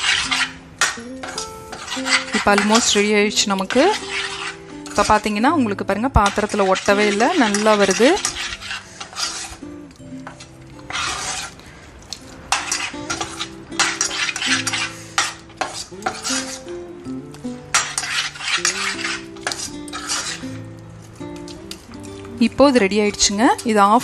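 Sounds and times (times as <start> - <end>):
metal spoon scraping a saucepan: 0.0 - 16.8, 17.5 - 20.7
mixture lightly sizzling: 0.0 - 24.0.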